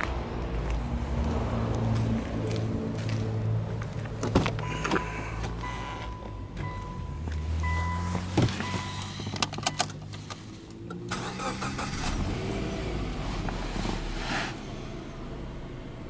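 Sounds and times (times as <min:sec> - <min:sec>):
car engine starting and idling: 0:00.0 - 0:16.0.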